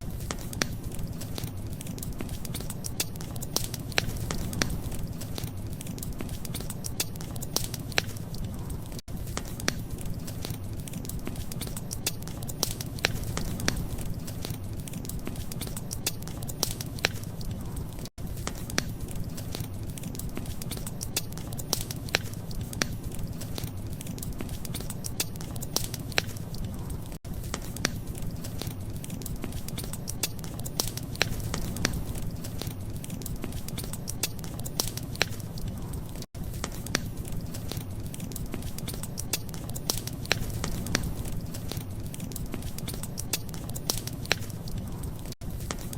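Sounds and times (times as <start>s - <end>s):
low rumble of fire: 0.0s - 45.9s
wood fire crackling and popping: 0.0s - 45.9s.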